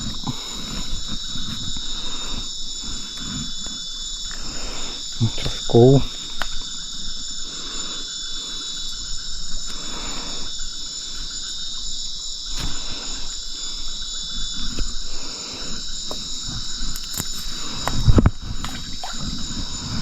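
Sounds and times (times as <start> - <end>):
crickets and insects chorus: 0.0 - 20.0.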